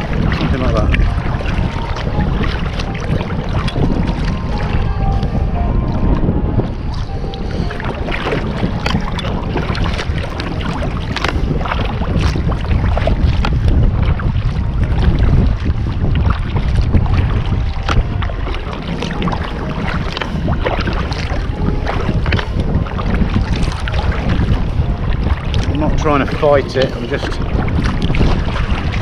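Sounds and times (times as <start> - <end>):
paddle splashes: 0.0 - 29.0
wind rumbling on microphone: 0.0 - 29.0.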